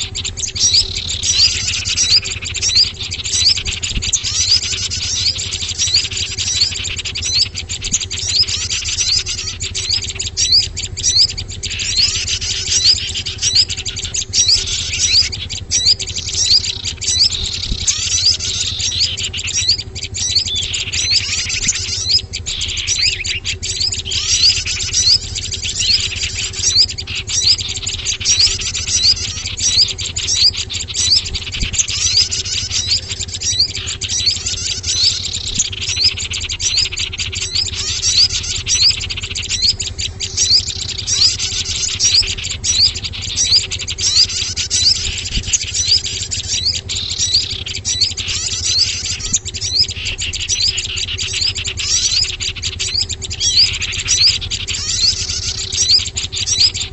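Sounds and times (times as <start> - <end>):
faint low hum: 0.0 - 56.9
songbirds chirping: 0.0 - 56.9.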